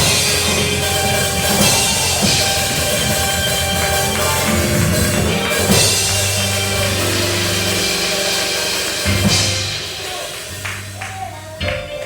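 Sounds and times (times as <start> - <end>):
sustained chords: 0.0 - 11.6
drum kit playing: 0.0 - 12.0
live church band music: 0.0 - 12.0.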